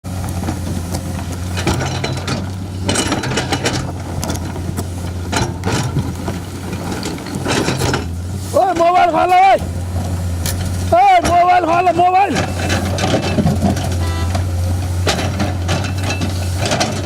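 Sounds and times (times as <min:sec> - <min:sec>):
excavator diesel engine running: 0:00.0 - 0:17.0
metallic clanks and rattles: 0:00.4 - 0:09.3, 0:10.0 - 0:17.0.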